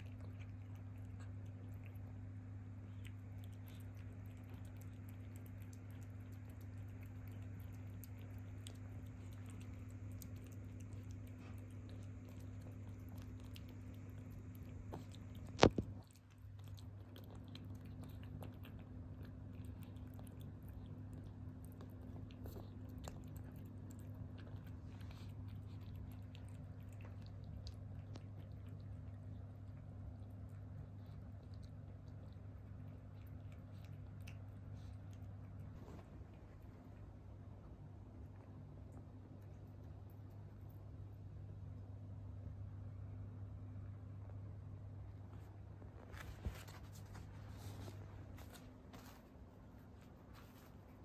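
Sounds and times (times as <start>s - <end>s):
cat chewing wet food: 0.0s - 51.0s
steady low hum: 0.0s - 51.0s.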